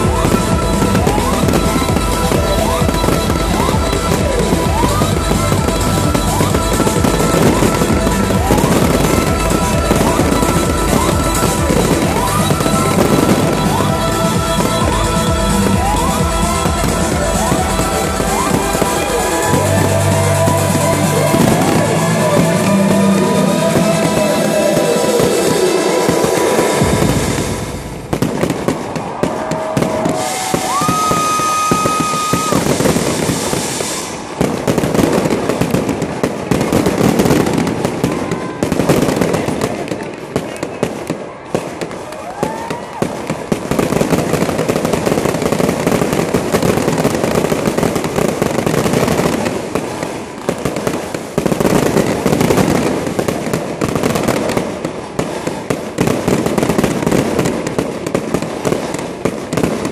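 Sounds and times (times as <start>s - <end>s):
fireworks bangs and crackling: 0.0s - 59.9s
fireworks whistles: 0.0s - 59.9s.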